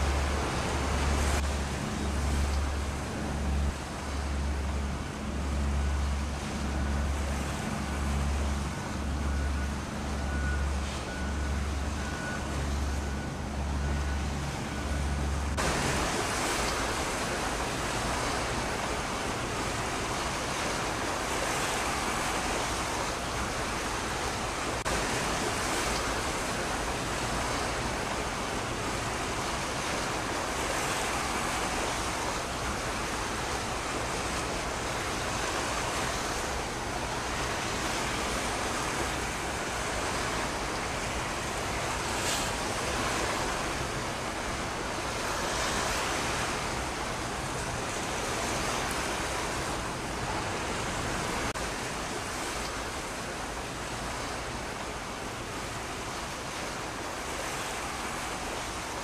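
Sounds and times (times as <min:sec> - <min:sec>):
harbour water rushing: 0:00.0 - 0:59.0
wind: 0:00.0 - 0:59.0.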